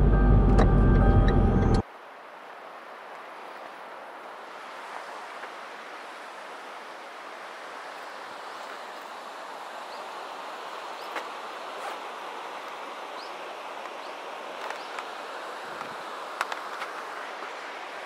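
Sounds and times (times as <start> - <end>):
river rushing over rapids: 1.8 - 18.0.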